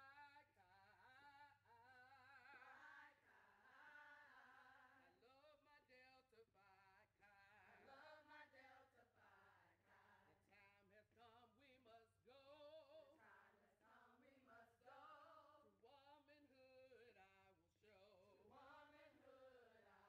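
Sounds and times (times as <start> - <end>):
faint group singing: 0.0 - 5.7, 7.0 - 17.2, 17.8 - 20.0.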